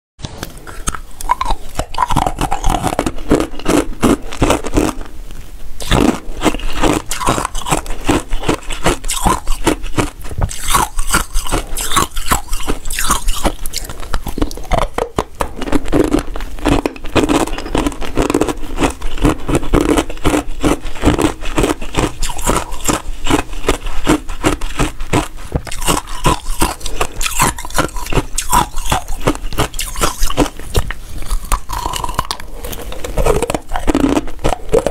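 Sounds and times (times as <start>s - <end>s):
crunching ice between teeth: 0.6s - 5.1s, 5.8s - 34.9s.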